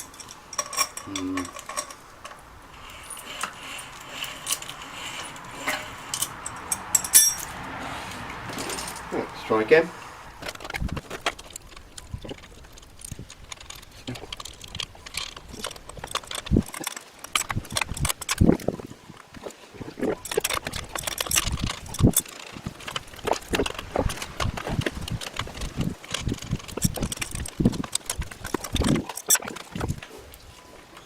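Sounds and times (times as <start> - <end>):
metal parts clicking and clinking: 0.0 - 7.6, 8.5 - 9.1, 10.4 - 18.7, 20.1 - 30.1.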